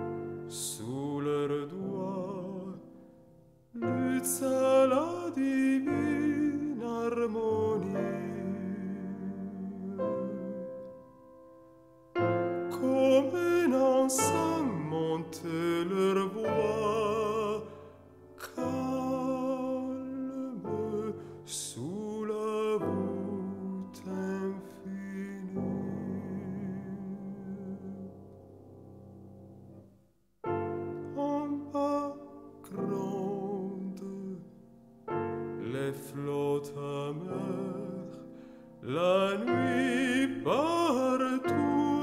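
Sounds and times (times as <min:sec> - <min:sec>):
slow tender song: 0:00.0 - 0:42.0.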